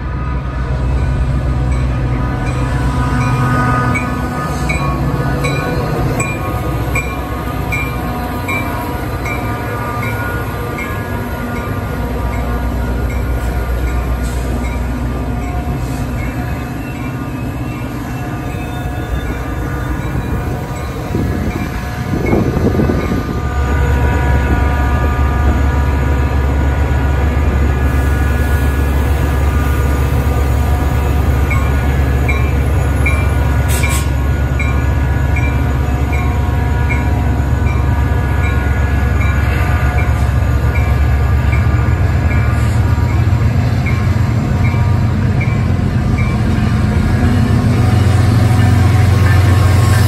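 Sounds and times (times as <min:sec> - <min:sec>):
diesel locomotive drone: 0:00.0 - 0:50.0
train cars rumbling on rails: 0:00.0 - 0:50.0.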